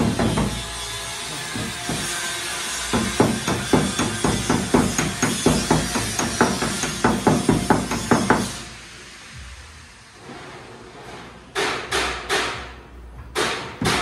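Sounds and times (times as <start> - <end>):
hammer blows on sheet steel: 0.0 - 8.8, 11.5 - 14.0.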